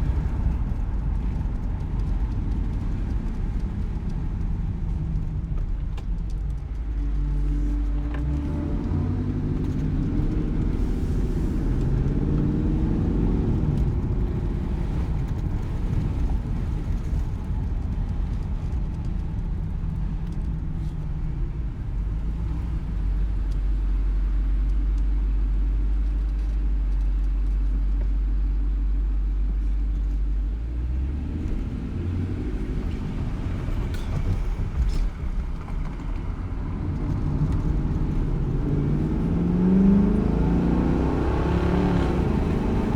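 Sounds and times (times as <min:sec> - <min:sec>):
car engine driving: 0:00.0 - 0:42.9.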